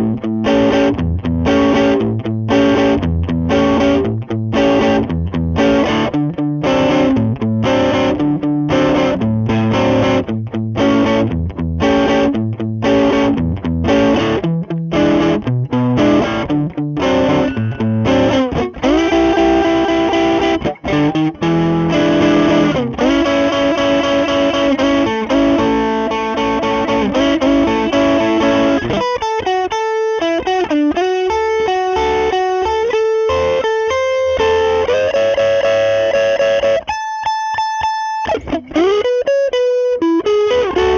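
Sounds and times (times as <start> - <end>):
overdriven electric guitar: 0.0 - 40.9.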